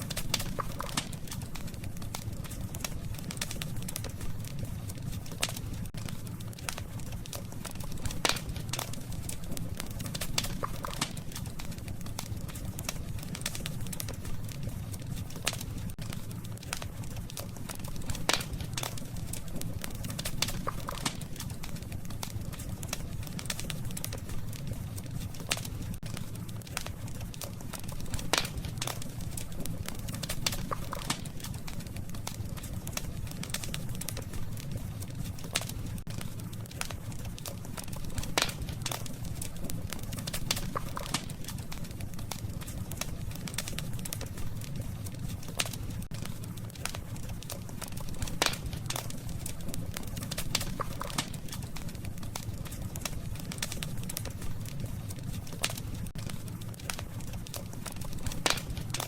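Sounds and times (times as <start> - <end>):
campfire crackling and popping: 0.0 - 59.0
low fire rumble: 0.0 - 59.0.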